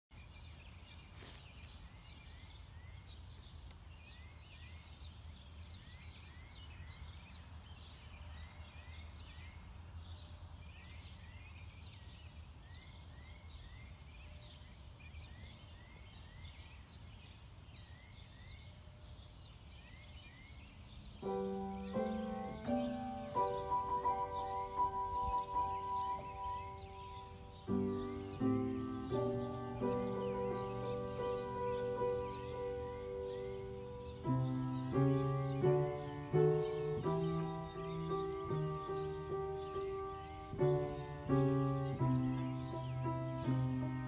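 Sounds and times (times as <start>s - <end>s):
birds chirping: 0.1s - 44.0s.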